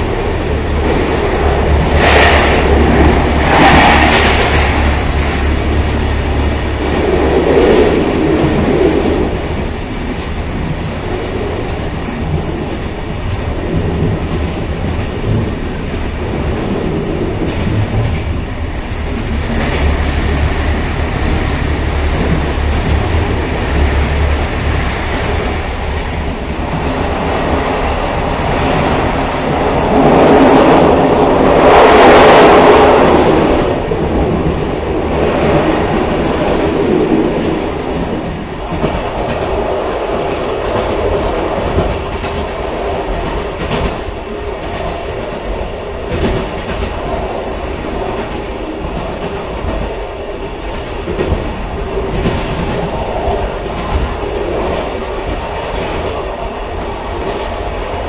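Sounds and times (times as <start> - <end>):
railcar rumbling along track: 0.0 - 58.0
wheel clatter over rails: 0.0 - 58.0.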